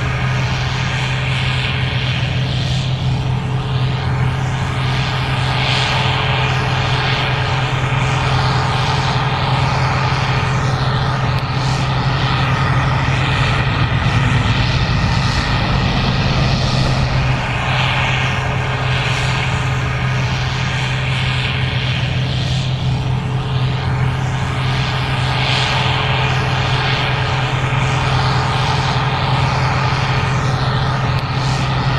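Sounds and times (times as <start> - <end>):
combine engine drone: 0.0 - 31.9.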